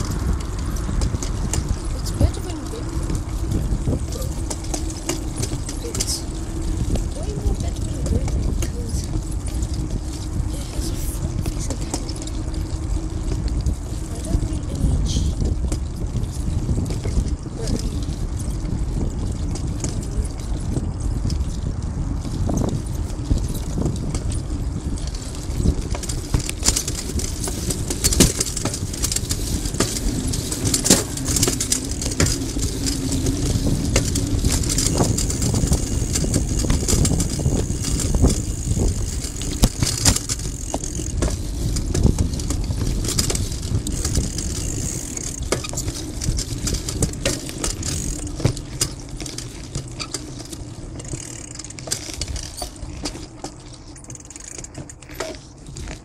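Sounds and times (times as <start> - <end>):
bicycle rattling: 0.0 - 56.0
bicycle tyres rumbling on paving: 0.0 - 56.0
wheels knocking on paving joints: 0.0 - 56.0
wind: 0.0 - 56.0.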